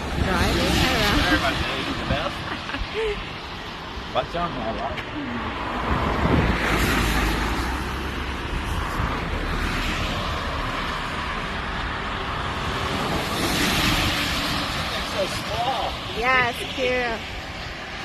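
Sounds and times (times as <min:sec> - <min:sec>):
wind rushing over microphone: 0:00.0 - 0:04.2, 0:05.0 - 0:18.0.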